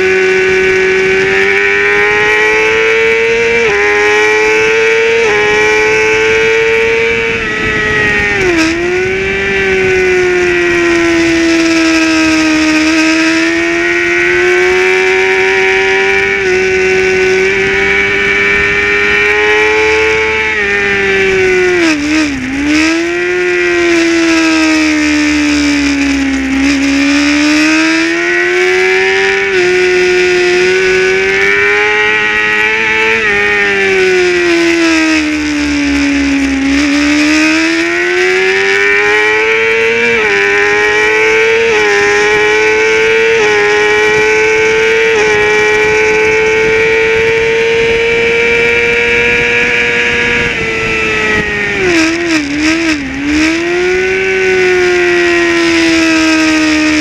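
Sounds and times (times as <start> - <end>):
race motorcycle engine revving: 0.0 - 57.0
wind noise: 0.0 - 57.0.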